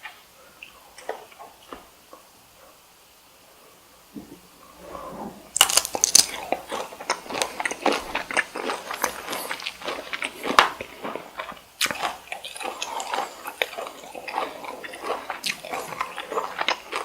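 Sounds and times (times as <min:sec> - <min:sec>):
chewing with mouth smacks: 0:00.0 - 0:02.3, 0:04.2 - 0:17.0.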